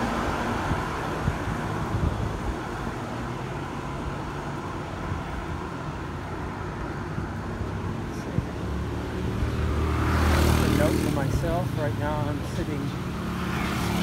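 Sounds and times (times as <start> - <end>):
city street traffic rumble: 0.0 - 14.0.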